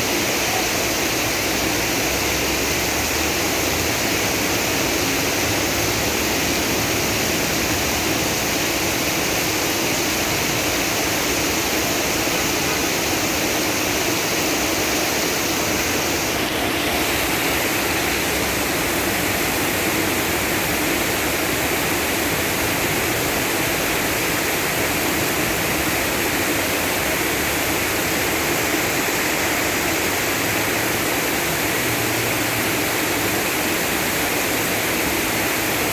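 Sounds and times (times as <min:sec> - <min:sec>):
heavy rain falling: 0:00.0 - 0:35.9
rainwater running: 0:00.0 - 0:35.9.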